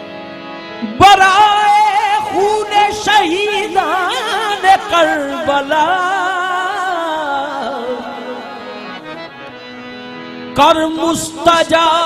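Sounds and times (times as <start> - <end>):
harmonium: 0.0 - 12.0.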